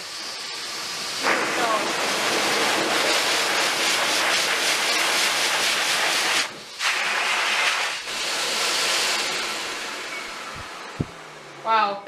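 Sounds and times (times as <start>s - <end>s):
pet dryer blowing air: 0.0s - 11.6s.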